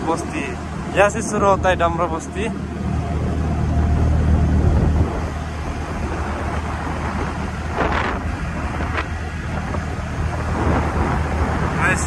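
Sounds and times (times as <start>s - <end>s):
engine and road rumble: 0.0s - 12.0s
wind noise: 0.0s - 12.0s.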